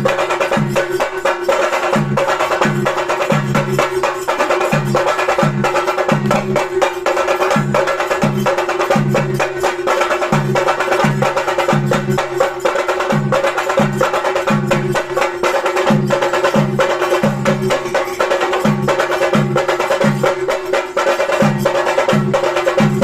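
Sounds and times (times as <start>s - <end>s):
drums beaten with sticks: 0.0s - 23.0s.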